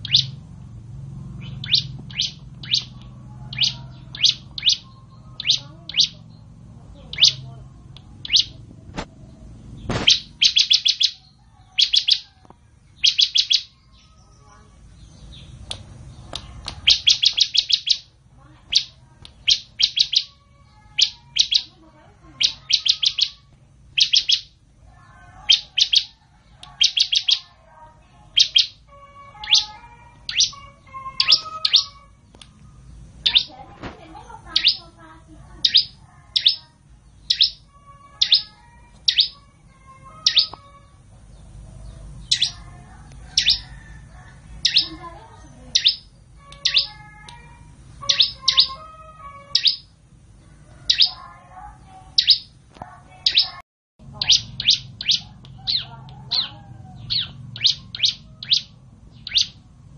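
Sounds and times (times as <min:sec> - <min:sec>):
bird singing high sharp chirps: 0:00.0 - 0:00.5, 0:01.2 - 0:12.3, 0:12.9 - 0:24.6, 0:25.4 - 0:27.6, 0:28.2 - 0:32.4, 0:33.2 - 0:33.6, 0:34.2 - 0:35.0, 0:35.6 - 0:39.4, 0:40.2 - 0:40.8, 0:42.2 - 0:44.0, 0:44.6 - 0:50.0, 0:50.9 - 0:51.3, 0:52.0 - 0:52.6, 0:53.2 - 0:59.7.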